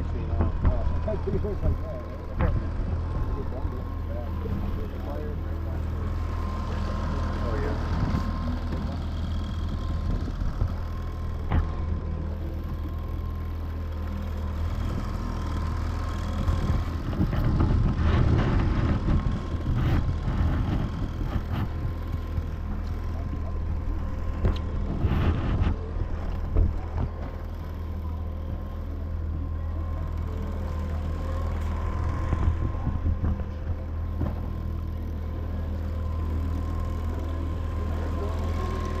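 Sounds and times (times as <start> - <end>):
outboard motor running: 0.0 - 39.0.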